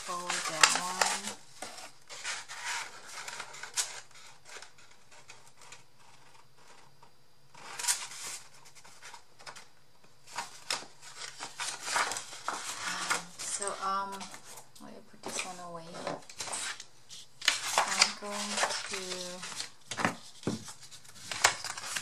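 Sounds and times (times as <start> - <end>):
paper rustling and rubbing: 0.0 - 22.0.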